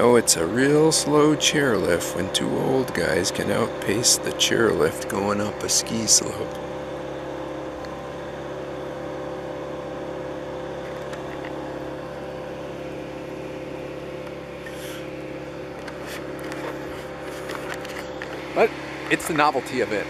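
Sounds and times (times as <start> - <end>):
chairlift engine drone: 0.0 - 20.0.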